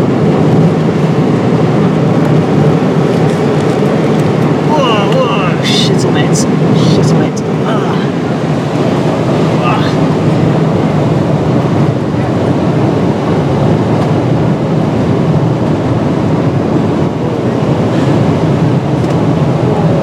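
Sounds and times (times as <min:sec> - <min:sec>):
aircraft cabin engine drone: 0:00.0 - 0:20.0.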